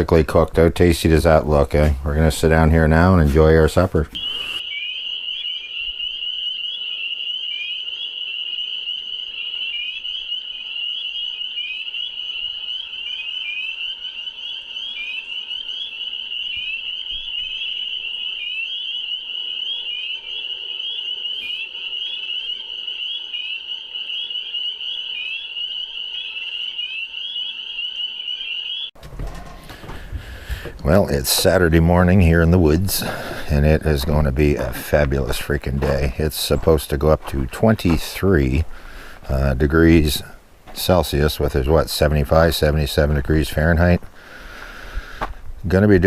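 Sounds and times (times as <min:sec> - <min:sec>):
chorus of spring peepers: 0:00.0 - 0:46.0.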